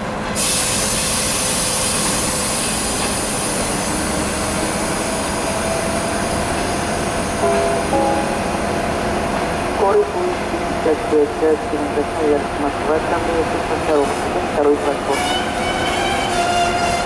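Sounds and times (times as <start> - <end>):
electric locomotive air rush: 0.2 - 17.0.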